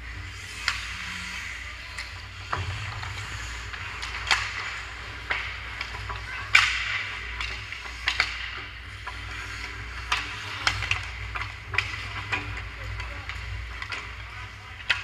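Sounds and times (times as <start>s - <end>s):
skates scraping on ice: 0.0s - 15.0s
steady low hum: 0.0s - 15.0s
hockey sticks and puck clacking: 0.1s - 15.0s.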